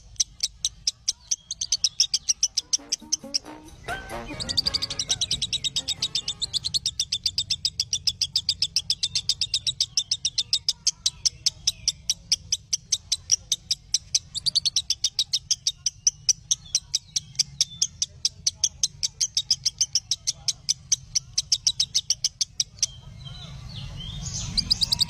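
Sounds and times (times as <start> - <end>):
lovebird chattering high chirps: 0.0 - 25.0.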